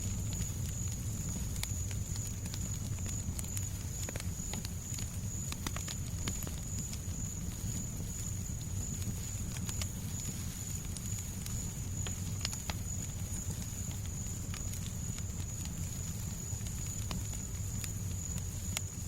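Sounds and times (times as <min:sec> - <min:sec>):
constant high hiss: 0:00.0 - 0:19.0
fireplace fire crackling: 0:00.0 - 0:19.0.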